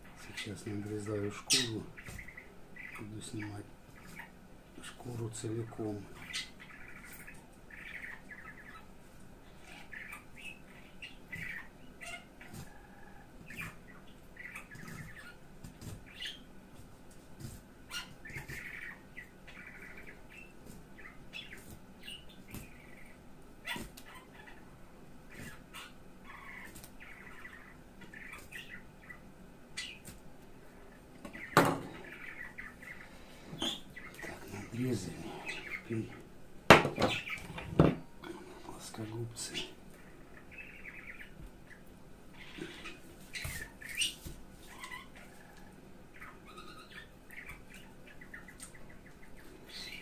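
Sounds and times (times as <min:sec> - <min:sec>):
bird-like chirps: 0:00.1 - 0:15.4, 0:16.0 - 0:16.5, 0:17.9 - 0:24.7, 0:25.3 - 0:30.1, 0:30.8 - 0:36.2, 0:38.2 - 0:50.0.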